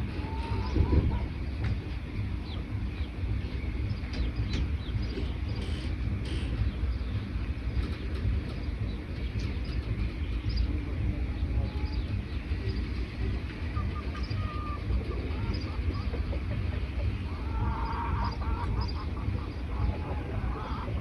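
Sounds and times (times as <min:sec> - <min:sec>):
birds chirping: 0:00.0 - 0:21.0
lower repeated bird calls: 0:00.0 - 0:21.0
steady low rumble: 0:00.0 - 0:21.0.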